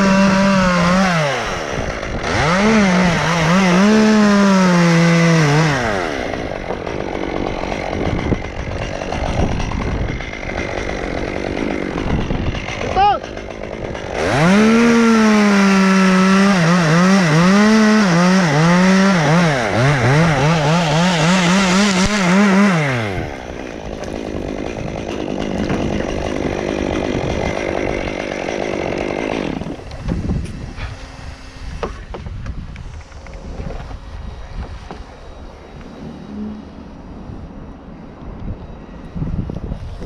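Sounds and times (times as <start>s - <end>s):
chainsaw cutting wood: 0.0s - 37.1s.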